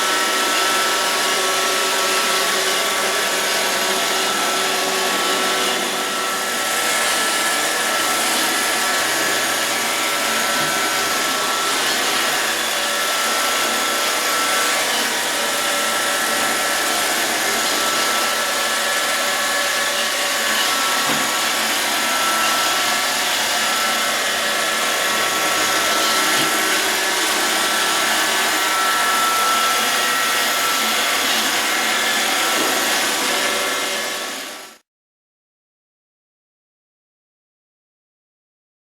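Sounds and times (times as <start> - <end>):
robot vacuum cleaner whirring: 0.0 - 34.8.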